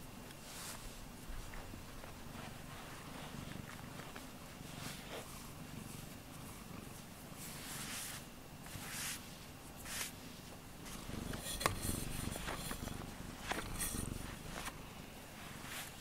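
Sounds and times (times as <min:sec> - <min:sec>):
fur brushing against microphone: 0:00.4 - 0:06.1, 0:06.7 - 0:14.6
cat purring: 0:00.4 - 0:16.0.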